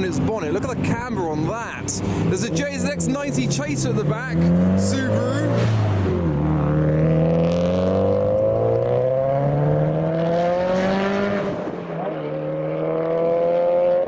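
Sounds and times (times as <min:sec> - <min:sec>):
car engine accelerating hard: 0:00.3 - 0:14.0.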